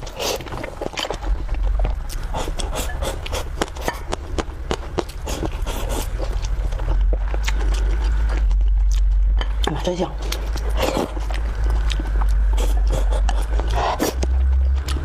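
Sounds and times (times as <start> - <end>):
chewing and mouth noise: 0.0 - 15.0
low rumble: 0.0 - 15.0.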